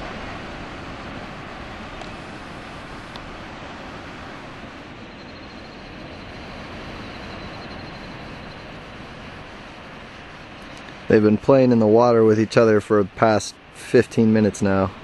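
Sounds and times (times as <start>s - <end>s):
faint high whine: 0.0s - 15.0s
outdoor rushing noise: 0.0s - 15.0s.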